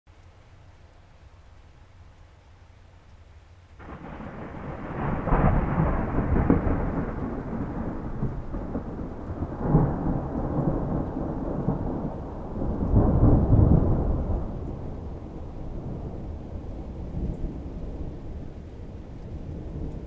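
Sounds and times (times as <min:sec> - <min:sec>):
rain falling: 0:00.1 - 0:20.0
thunder rumbling: 0:03.8 - 0:20.0.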